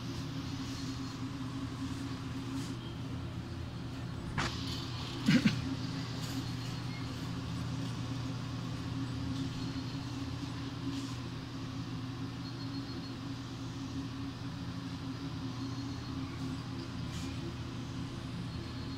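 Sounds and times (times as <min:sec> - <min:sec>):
oven fan humming: 0:00.0 - 0:18.9.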